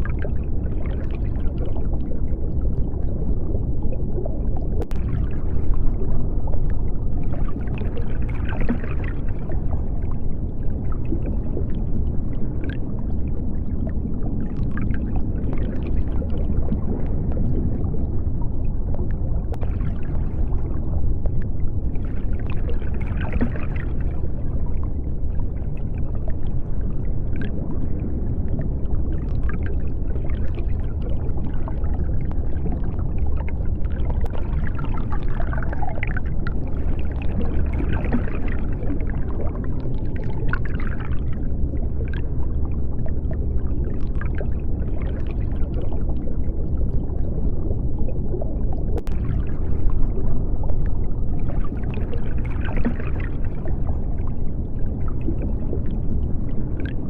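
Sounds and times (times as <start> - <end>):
underwater deep rumble: 0.0 - 57.0
underwater washes of sound: 0.0 - 57.0.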